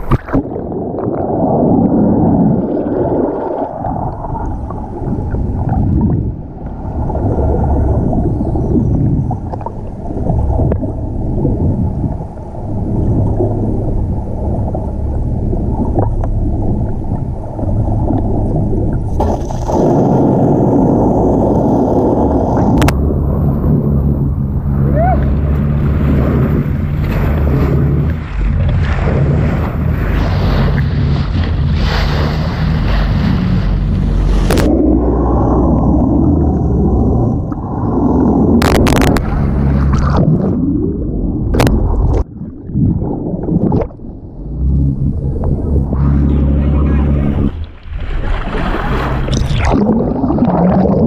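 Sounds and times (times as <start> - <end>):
rushing water: 0.0 - 51.0
wind on microphone: 0.0 - 51.0
boat engine hum: 3.1 - 50.8.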